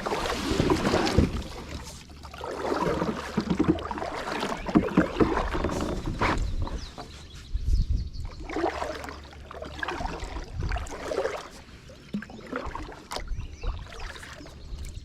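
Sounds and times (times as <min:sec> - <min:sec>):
water splashing around kayak: 0:00.0 - 0:15.0.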